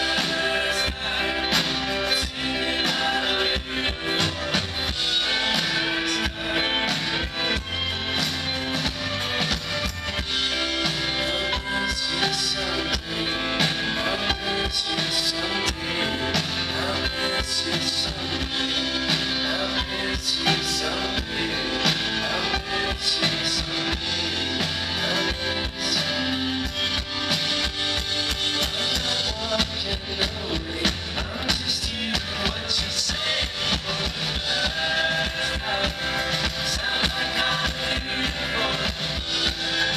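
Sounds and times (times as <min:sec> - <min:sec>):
bass: 0:00.0 - 0:39.9
drum kit beat: 0:00.0 - 0:39.9
strummed guitars: 0:00.0 - 0:39.9.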